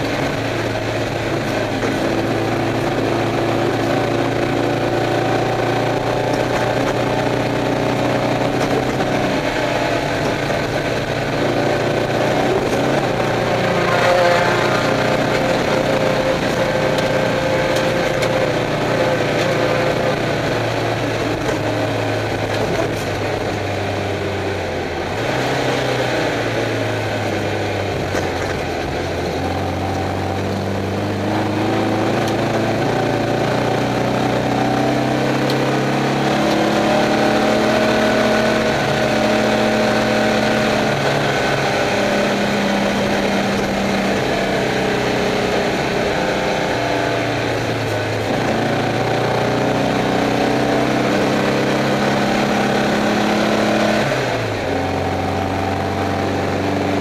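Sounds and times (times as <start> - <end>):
race car engine revving: 0.0 - 57.0
steady rushing noise: 0.0 - 57.0.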